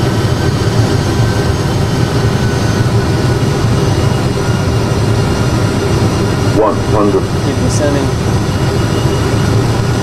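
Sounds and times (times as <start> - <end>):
aircraft engine and airflow rumble: 0.0 - 10.0.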